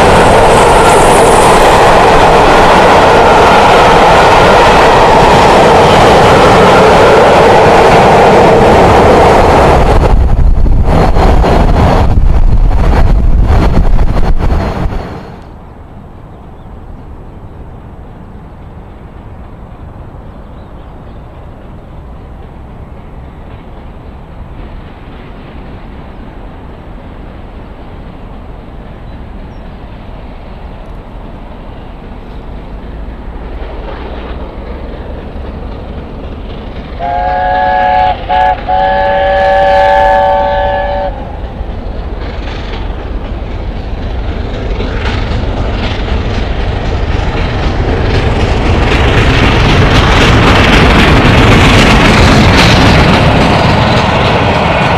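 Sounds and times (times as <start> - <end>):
steam locomotive rumble: 0.0 - 54.9.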